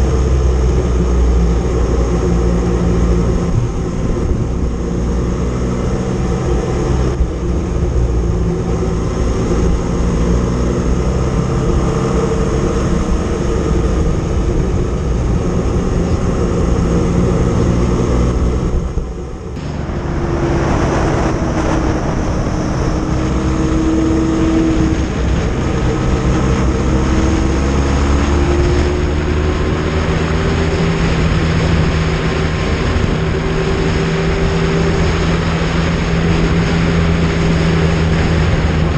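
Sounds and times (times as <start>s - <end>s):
motorcycle engine running: 1.0s - 38.9s.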